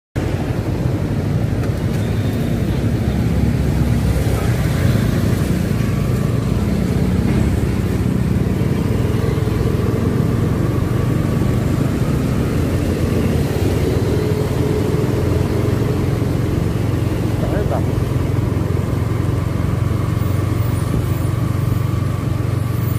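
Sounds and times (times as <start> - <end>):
city traffic hum: 0.2 - 22.9
motorcycle engine running: 3.5 - 22.9.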